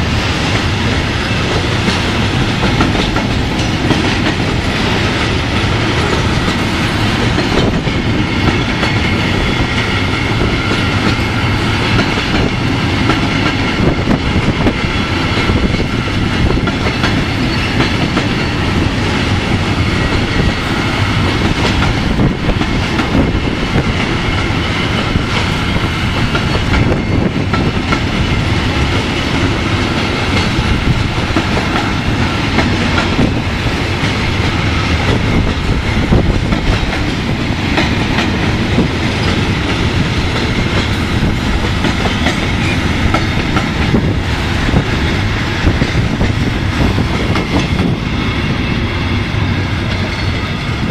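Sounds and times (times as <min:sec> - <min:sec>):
train rattling past on track: 0:00.0 - 0:50.9.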